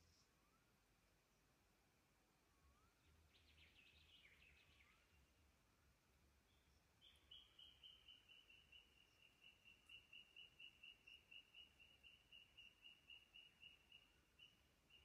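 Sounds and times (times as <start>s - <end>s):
faint forest birdsong: 0.0s - 15.0s.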